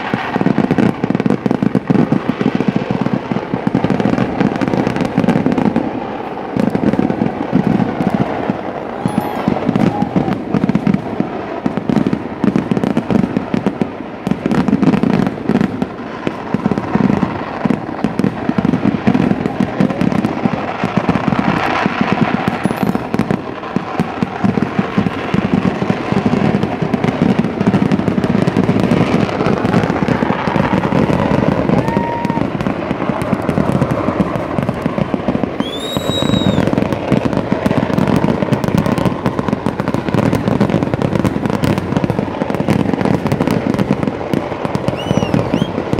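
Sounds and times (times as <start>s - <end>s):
fireworks barrage: 0.0s - 45.9s.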